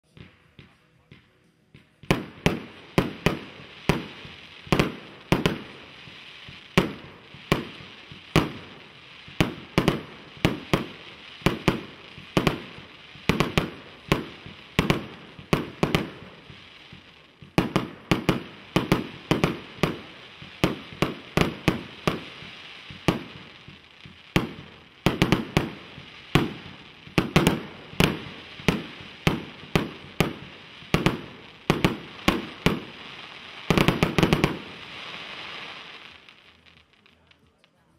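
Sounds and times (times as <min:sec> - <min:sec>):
firework cake shots: 0:00.0 - 0:37.9
sparks crackling from fireworks: 0:00.0 - 0:37.9.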